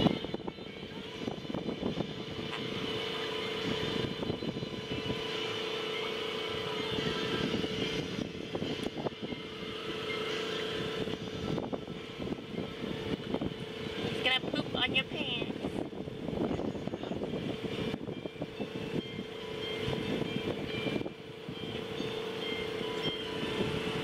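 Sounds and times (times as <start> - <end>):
mechanical hum: 0.0 - 24.0
wind: 0.0 - 24.0.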